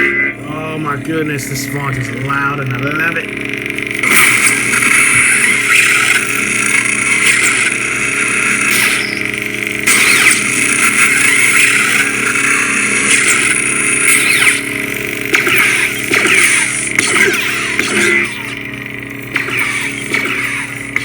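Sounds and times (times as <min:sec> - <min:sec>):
lightsaber buzzing hum: 0:00.0 - 0:21.0.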